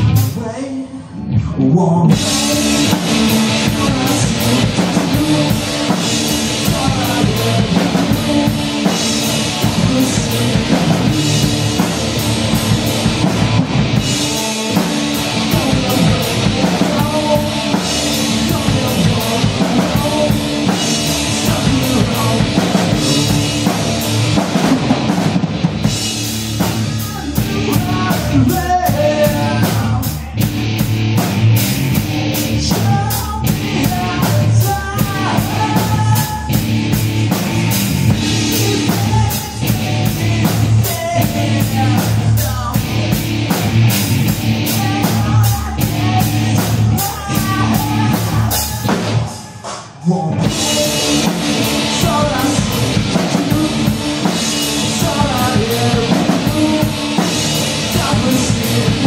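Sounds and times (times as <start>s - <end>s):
electric guitar: 0.0s - 59.0s
person singing lead vocals: 0.0s - 59.0s
drum kit fast beat: 2.1s - 59.0s.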